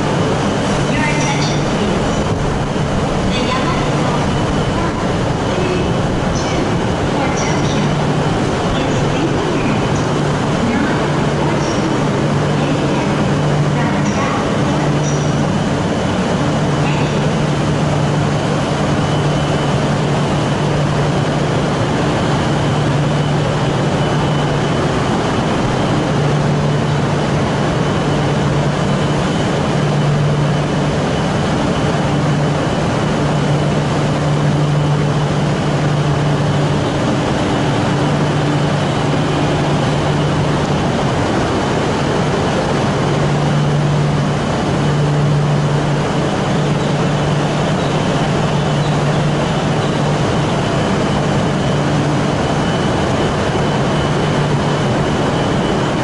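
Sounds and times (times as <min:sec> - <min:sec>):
faint high whine: 0:00.0 - 0:56.0
low drone: 0:00.0 - 0:56.0
train hum: 0:00.0 - 0:56.0.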